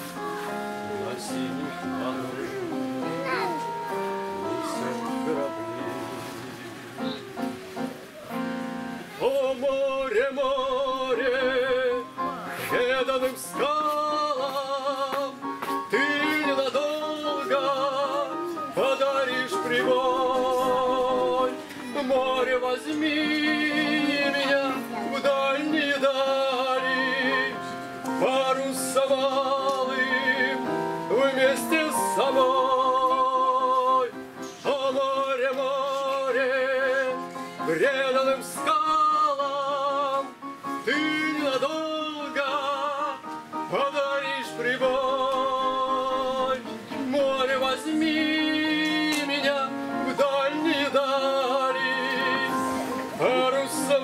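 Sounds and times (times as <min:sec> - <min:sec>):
electronic keyboard: 0:00.0 - 0:54.0
man singing with vibrato: 0:00.0 - 0:54.0.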